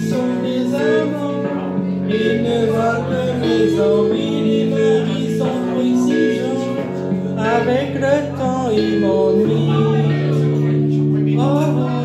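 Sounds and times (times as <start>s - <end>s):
backing track of held chords: 0.0s - 12.0s
man singing into a microphone: 0.0s - 12.0s.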